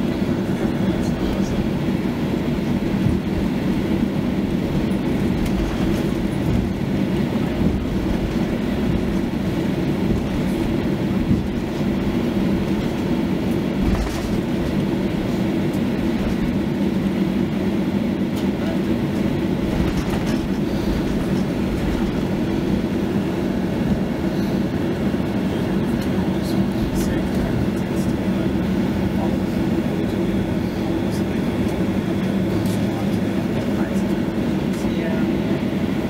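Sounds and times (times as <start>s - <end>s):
aircraft engine low rumble: 0.0s - 36.0s.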